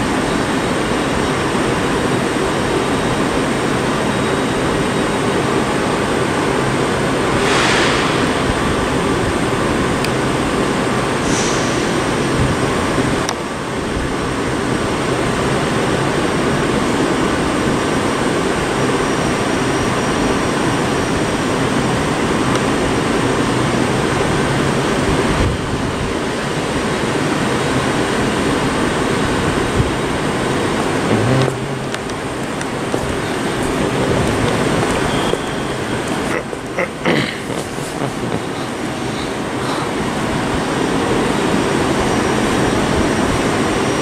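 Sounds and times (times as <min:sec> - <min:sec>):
rumble and hiss of electric trains: 0:00.0 - 0:44.0
train approaching platform: 0:00.0 - 0:44.0.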